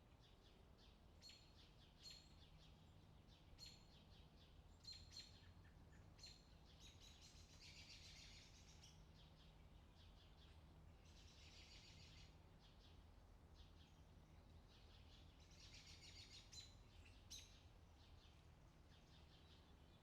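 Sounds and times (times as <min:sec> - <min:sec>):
low steady hum: 0:00.0 - 0:20.0
bird chirps and twittering: 0:00.8 - 0:13.0, 0:13.6 - 0:20.0.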